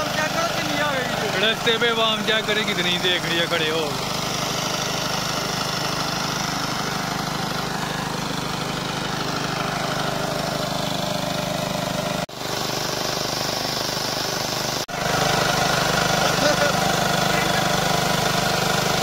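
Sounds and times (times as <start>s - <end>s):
engine water pump running: 0.0s - 19.0s.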